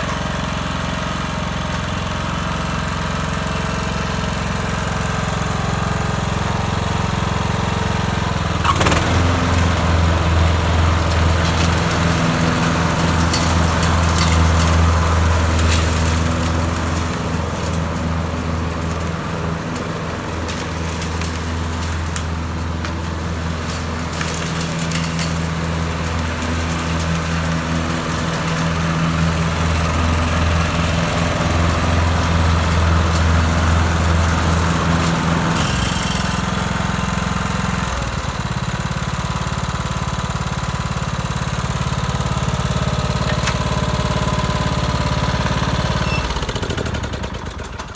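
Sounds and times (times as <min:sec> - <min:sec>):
riding lawnmower engine running: 0:00.0 - 0:47.9.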